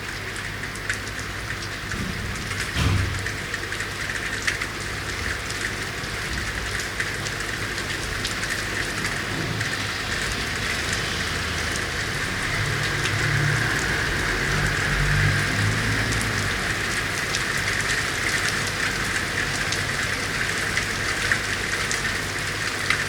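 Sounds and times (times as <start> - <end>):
raindrops ticking: 0.0 - 23.0
steady rain hissing: 0.0 - 23.0.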